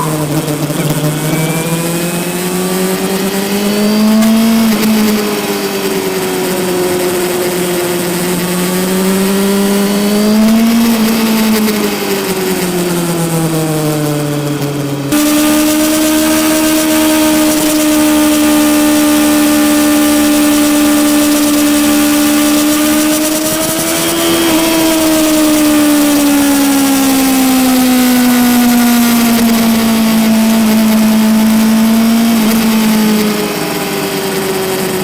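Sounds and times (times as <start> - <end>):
motorcycle engine at high revs: 0.0 - 35.0.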